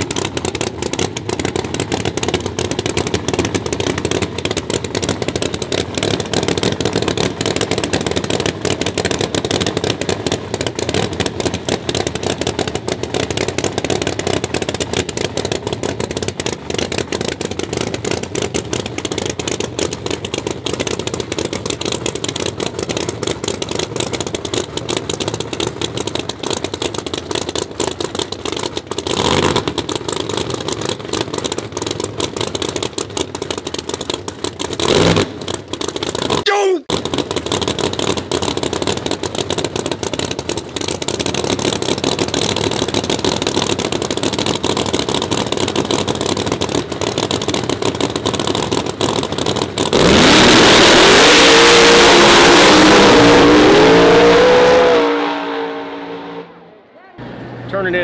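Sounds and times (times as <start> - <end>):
race car engine idling loudly: 0.0 - 51.4.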